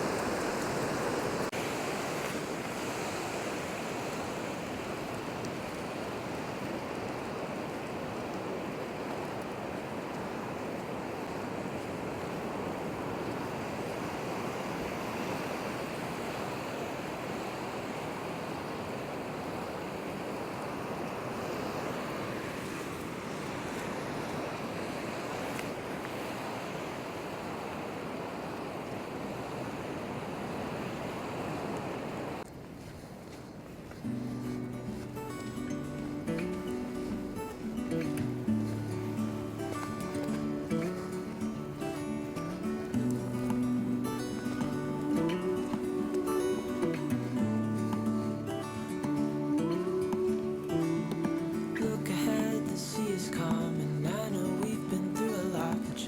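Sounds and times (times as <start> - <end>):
sea surf rushing: 0.0 - 56.0
wind: 0.0 - 56.0.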